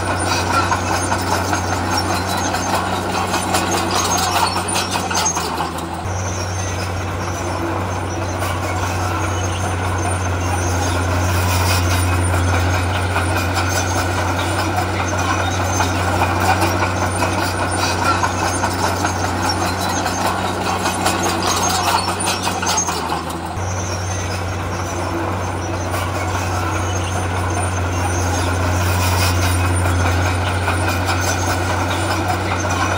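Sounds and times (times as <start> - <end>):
diesel construction machinery: 0.0 - 32.9.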